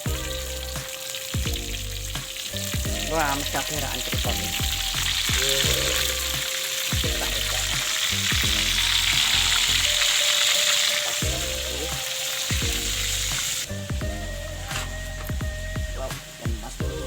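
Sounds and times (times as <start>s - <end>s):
background music: 0.0s - 17.0s
fish sizzling in oil: 0.0s - 17.0s.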